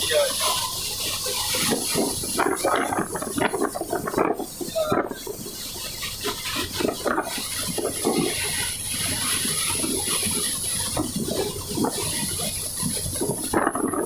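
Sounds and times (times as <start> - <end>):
heavy rain: 0.0 - 14.0
high hiss: 0.0 - 14.0
strong wind: 0.0 - 14.0.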